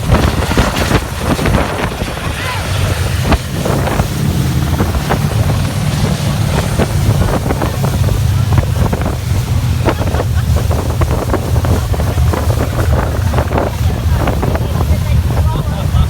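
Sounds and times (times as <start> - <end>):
boat engine droning: 0.0 - 16.0
hull slapping on water: 0.0 - 16.0
wind buffeting microphone: 0.0 - 16.0.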